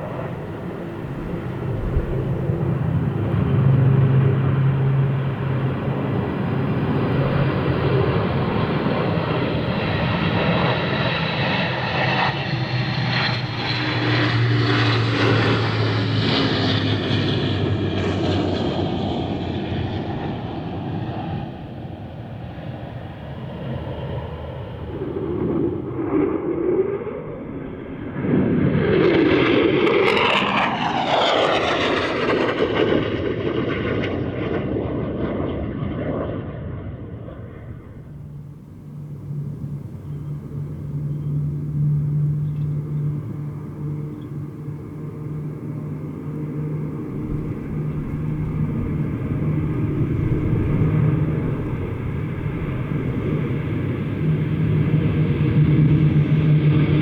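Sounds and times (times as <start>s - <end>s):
low-flying aircraft rushing past: 0.0s - 57.0s
propeller drone: 0.0s - 57.0s.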